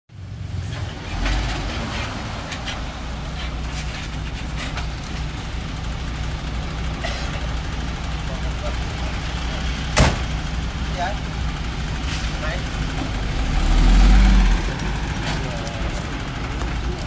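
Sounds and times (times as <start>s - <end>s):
truck diesel engine rumbling: 0.1s - 17.0s.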